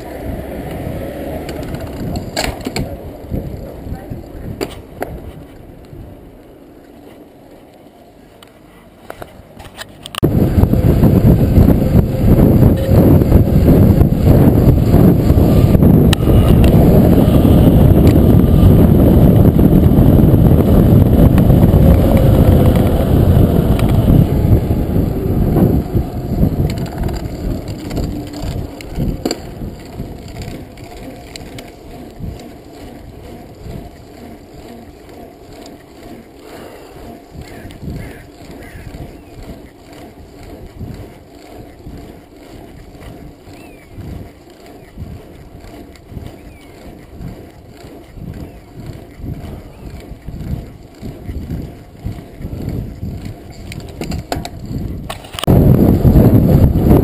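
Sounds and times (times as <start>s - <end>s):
wind rushing over microphone: 0.0s - 6.7s, 10.1s - 57.0s
bike clicks and rattles: 0.0s - 57.0s
knobby tyres rolling on road: 0.0s - 57.0s.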